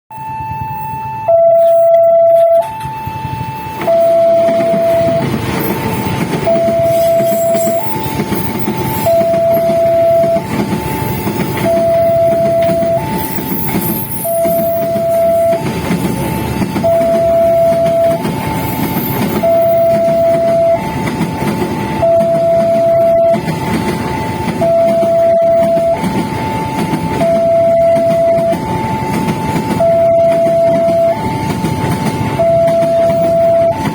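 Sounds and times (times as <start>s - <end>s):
train rumbling past: 0.1s - 33.9s
two-tone crossing warning siren: 0.1s - 33.9s.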